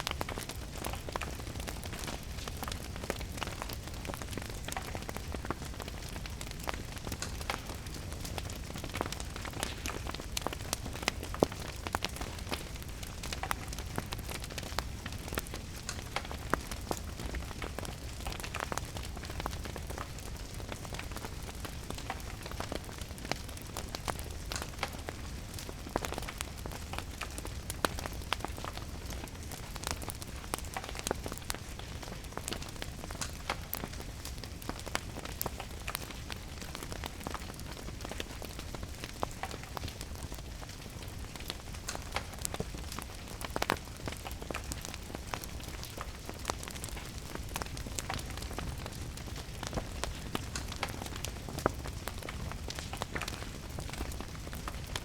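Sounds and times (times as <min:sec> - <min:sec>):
steady rain hiss: 0:00.0 - 0:55.0
wood fire crackling: 0:00.0 - 0:55.0.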